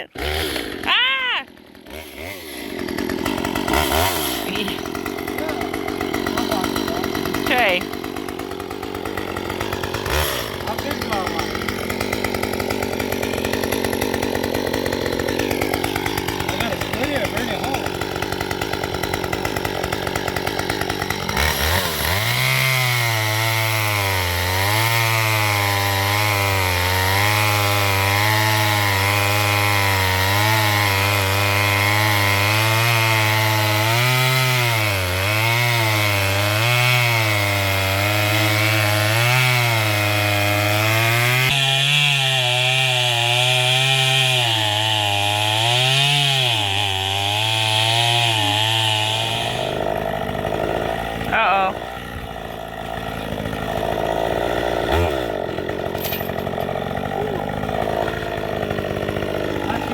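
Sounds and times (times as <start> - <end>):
chainsaw cutting into log: 0.0 - 59.9.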